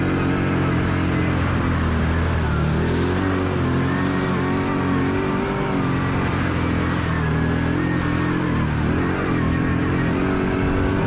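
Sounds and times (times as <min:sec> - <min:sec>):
engine revving: 0:00.0 - 0:11.0
steady rushing noise: 0:00.0 - 0:11.0.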